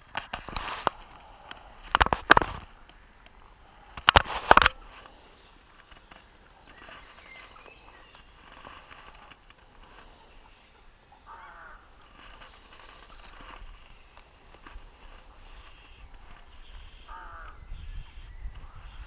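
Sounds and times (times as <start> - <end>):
scattered bird calls: 1.0 - 19.0.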